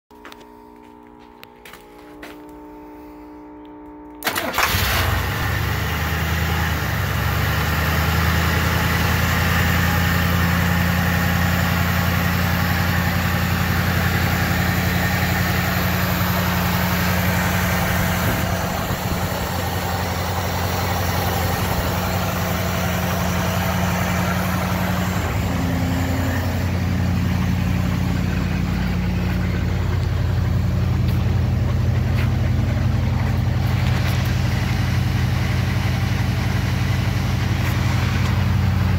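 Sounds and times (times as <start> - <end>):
car engine idling: 3.9 - 38.9.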